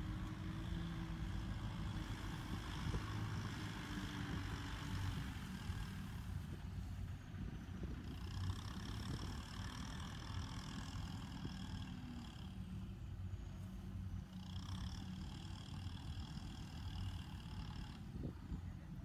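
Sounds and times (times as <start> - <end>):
tractor diesel engine rumbling: 0.0 - 19.0.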